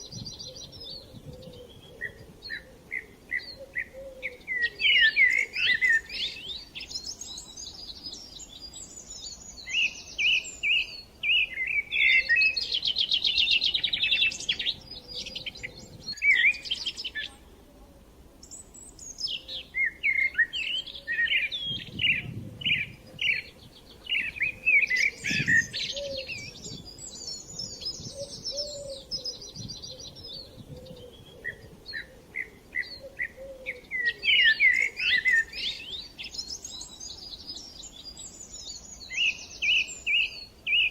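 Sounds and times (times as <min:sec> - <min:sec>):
small birds chirping and trilling: 0:00.0 - 0:17.6, 0:18.4 - 0:40.9.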